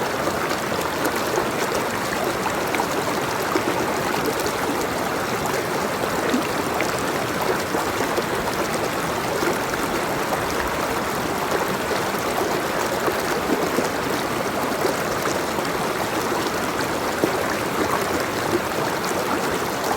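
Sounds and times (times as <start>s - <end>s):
water flowing with splashes: 0.0s - 19.9s.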